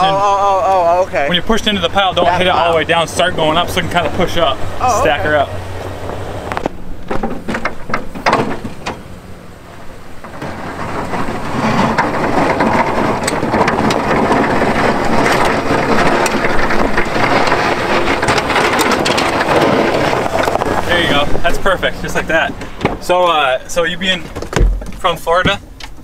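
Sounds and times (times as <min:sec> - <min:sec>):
truck engine: 0:00.0 - 0:26.0
snowplow blade scraping snow: 0:01.2 - 0:24.4.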